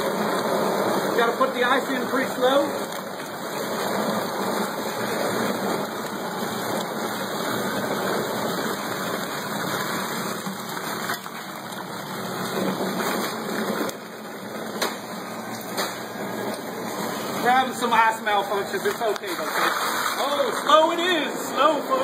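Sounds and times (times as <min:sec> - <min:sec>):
garbage disposal churning: 0:00.0 - 0:22.0.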